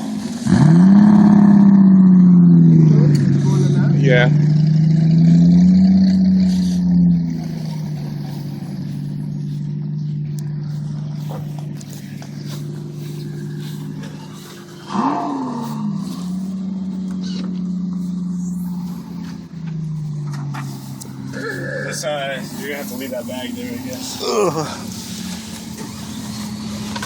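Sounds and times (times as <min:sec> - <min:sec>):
car engine revving: 0:00.0 - 0:27.0
car engine running: 0:00.0 - 0:27.0.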